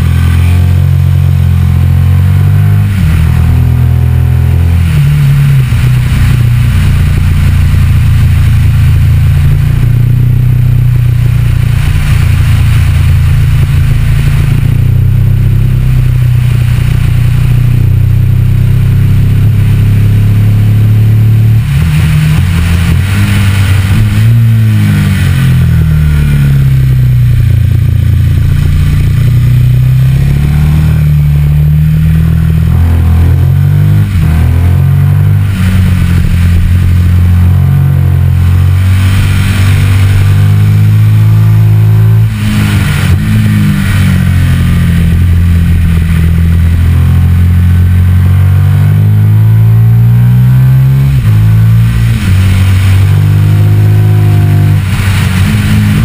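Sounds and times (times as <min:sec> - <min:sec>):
motorcycle engine pulling: 0:00.0 - 0:56.0.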